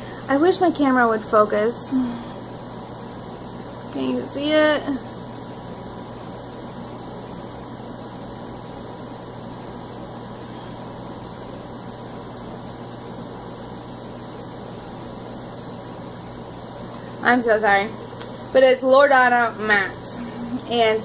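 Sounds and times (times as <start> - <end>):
low even hum: 0.0 - 21.0.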